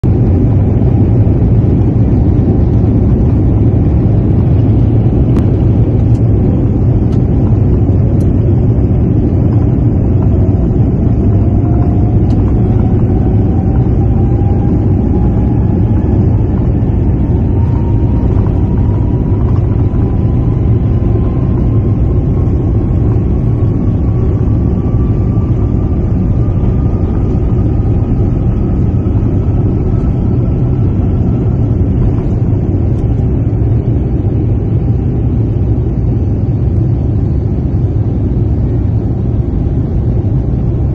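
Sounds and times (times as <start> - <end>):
faint whine rising in pitch: 0.0 - 40.9
jet engines and runway rumble: 0.0 - 40.9.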